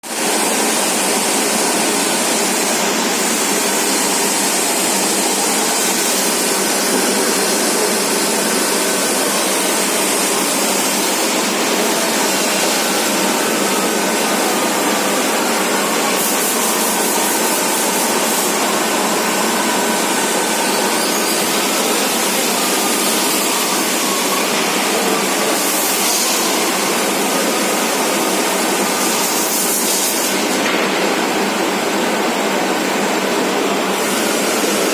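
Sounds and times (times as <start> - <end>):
lathe running: 0.1 - 34.9.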